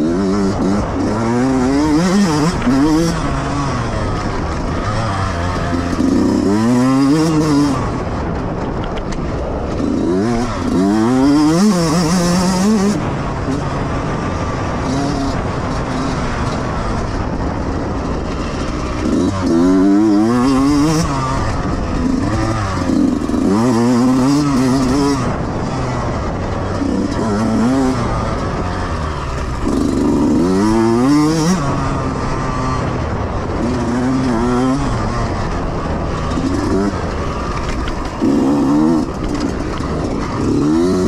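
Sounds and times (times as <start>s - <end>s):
dirt bike engine accelerating: 0.0s - 41.0s.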